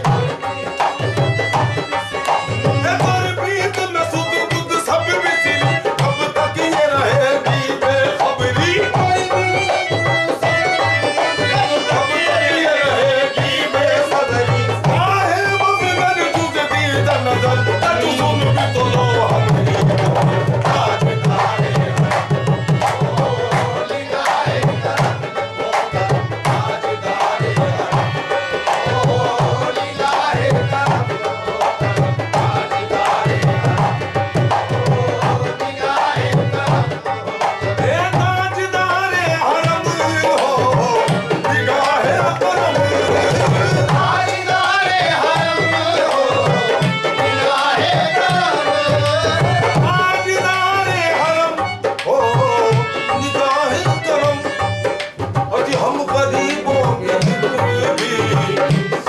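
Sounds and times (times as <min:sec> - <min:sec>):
harmonium tones: 0:00.0 - 0:59.0
people singing: 0:00.0 - 0:59.0.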